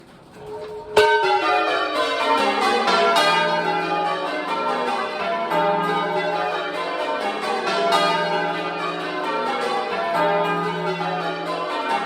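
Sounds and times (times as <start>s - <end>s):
church bells change ringing: 0.4s - 12.0s.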